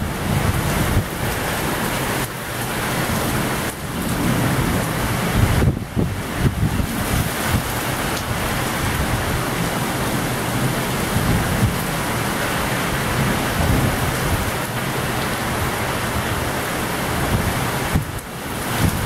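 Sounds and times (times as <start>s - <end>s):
torrential rain: 0.0s - 19.0s
wind gusts buffeting microphone: 0.0s - 19.0s.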